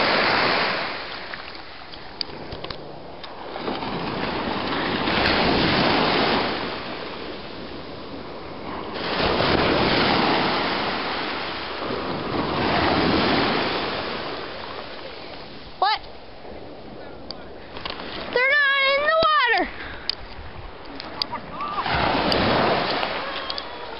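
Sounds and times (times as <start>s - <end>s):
ocean surf breaking: 0.0s - 23.9s.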